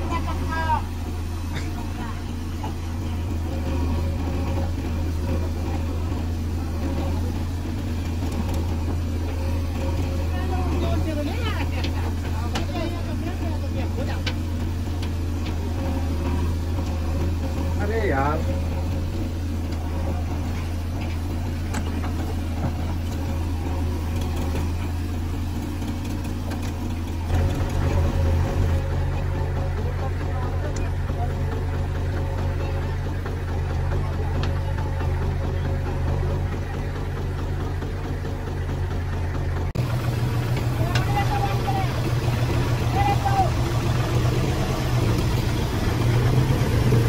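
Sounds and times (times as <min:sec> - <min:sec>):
diesel engines running: 0:00.0 - 0:47.0.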